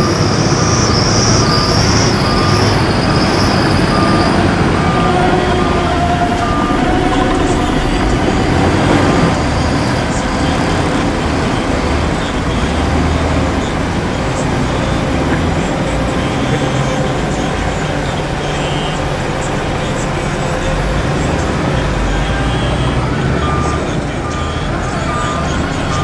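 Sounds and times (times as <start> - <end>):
heavy diesel machinery engine: 0.0 - 26.0.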